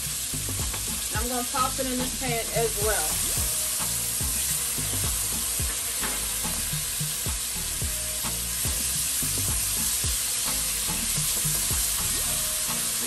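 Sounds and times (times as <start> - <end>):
low regular beat: 0.0 - 13.0
meat sizzling in a pot: 0.0 - 13.0.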